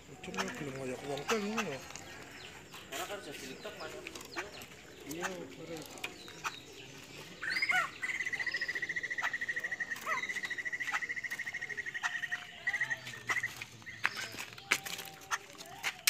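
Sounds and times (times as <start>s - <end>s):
laughingthrush calling: 0.0s - 14.5s.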